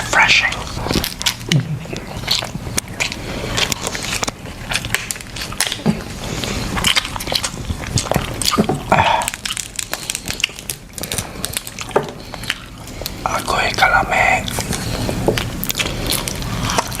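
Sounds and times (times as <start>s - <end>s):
seafood chewing crunches: 0.4s - 17.0s.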